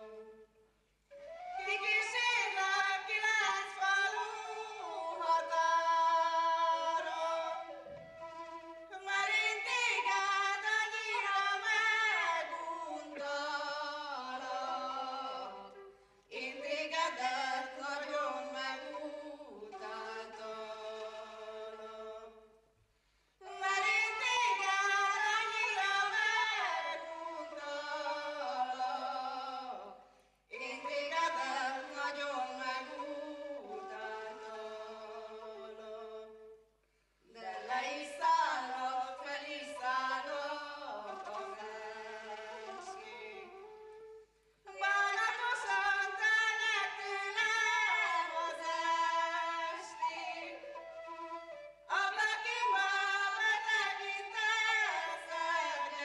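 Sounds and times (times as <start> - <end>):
woman singing folk song: 1.2 - 22.4, 23.4 - 36.6, 37.3 - 56.0.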